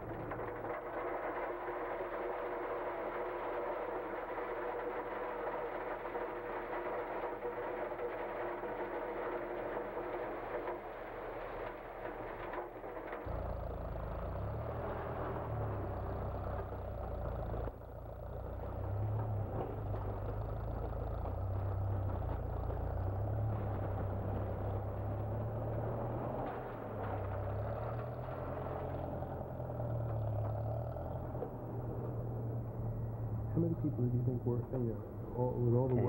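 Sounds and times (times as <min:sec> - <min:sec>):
crushed stone pouring: 0:00.0 - 0:31.7
loader engine rumbling: 0:00.0 - 0:36.0
truck engine running: 0:00.0 - 0:36.0.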